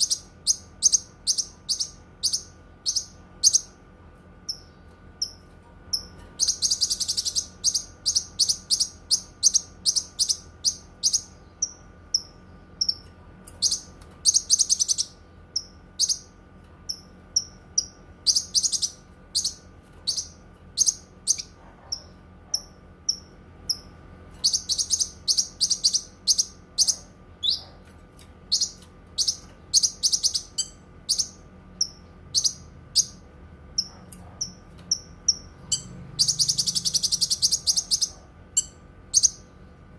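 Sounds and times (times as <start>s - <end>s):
songbird chirping and trilling: 0.0s - 39.7s
faint steady hum: 0.0s - 39.9s.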